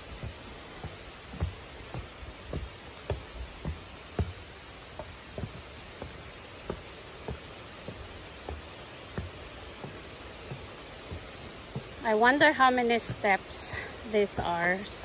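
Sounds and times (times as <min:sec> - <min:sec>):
background hiss: 0:00.0 - 0:15.0
footsteps on wooden stairs: 0:00.0 - 0:15.0.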